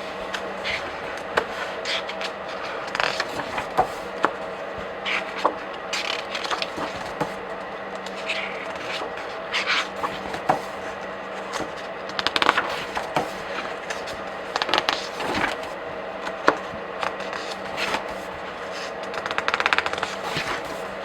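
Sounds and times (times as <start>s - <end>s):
pages riffling rapidly: 0.0s - 21.0s
paper pages turning: 0.0s - 21.0s.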